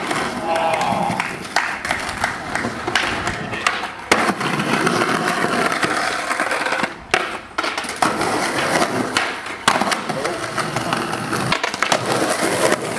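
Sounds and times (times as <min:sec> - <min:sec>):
skateboard clacking on ground: 0:00.0 - 0:12.9
skateboard wheels rolling on concrete: 0:00.0 - 0:12.9.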